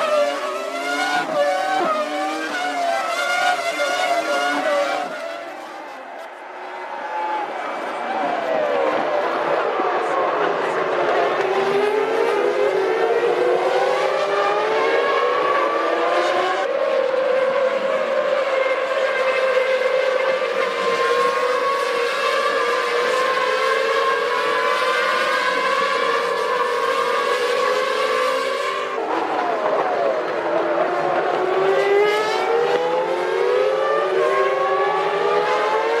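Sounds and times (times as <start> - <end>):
racing car engines at high revs: 0.0 - 36.0.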